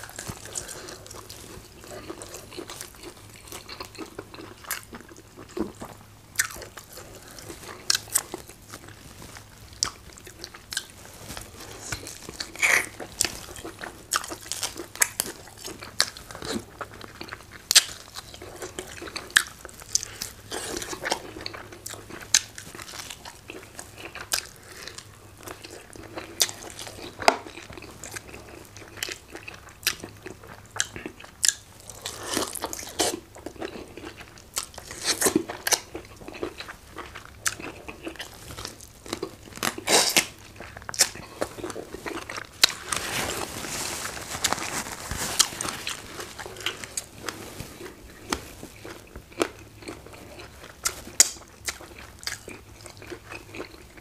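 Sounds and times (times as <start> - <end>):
chewing crunchy chicken: 0.0 - 54.0.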